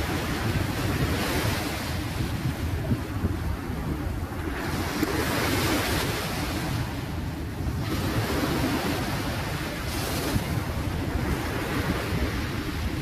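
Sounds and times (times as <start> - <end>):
ocean surf washing up beach: 0.0 - 13.0
wind buffeting microphone: 0.0 - 13.0.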